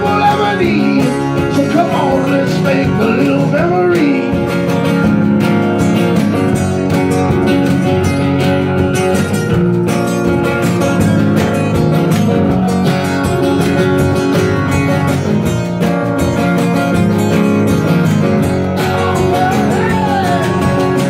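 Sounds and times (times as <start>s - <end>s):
acoustic guitars strumming: 0.0s - 21.0s.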